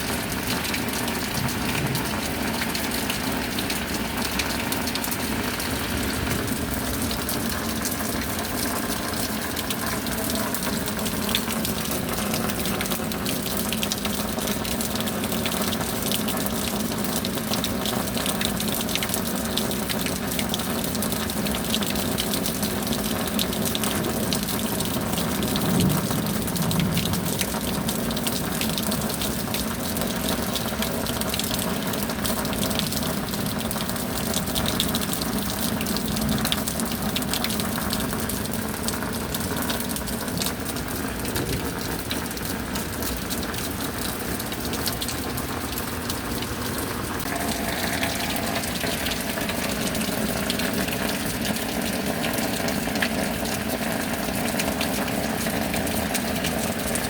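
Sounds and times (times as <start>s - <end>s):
gushing running water: 0.0s - 57.0s
steady rain: 0.0s - 57.0s.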